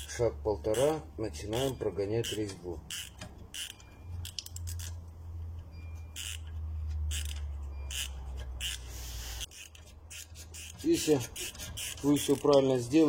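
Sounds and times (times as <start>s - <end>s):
tap scraping squeaks in metal: 0.0s - 5.0s, 5.6s - 13.0s.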